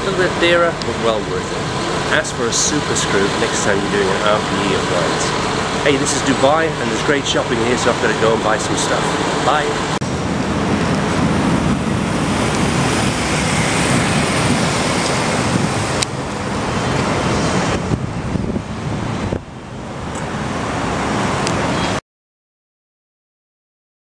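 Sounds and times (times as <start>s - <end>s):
road and traffic noise: 0.0s - 22.0s.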